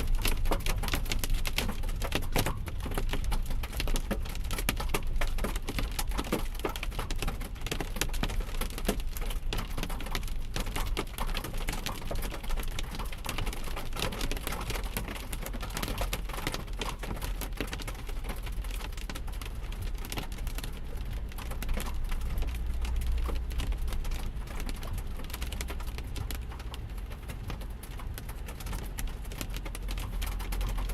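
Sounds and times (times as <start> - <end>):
hailstones hitting a vehicle: 0.0 - 30.9.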